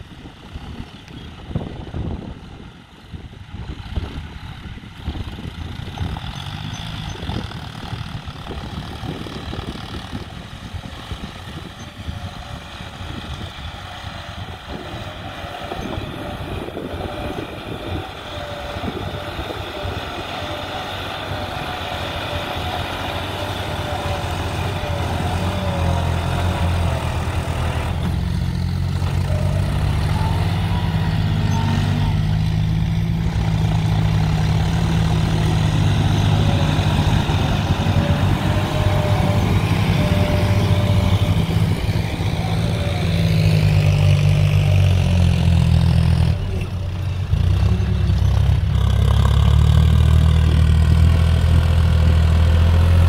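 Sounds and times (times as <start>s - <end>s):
tractor diesel engine humming: 0.0s - 53.0s.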